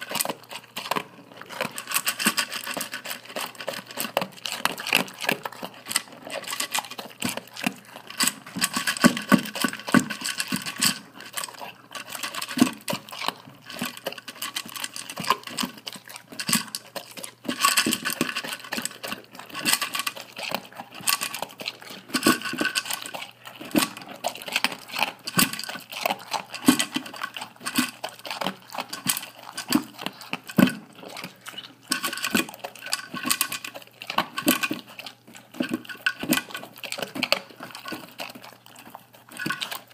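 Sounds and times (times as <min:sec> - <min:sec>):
dog crunching kibble: 0:00.0 - 0:39.9
kibble clattering in metal bowl: 0:00.0 - 0:39.9.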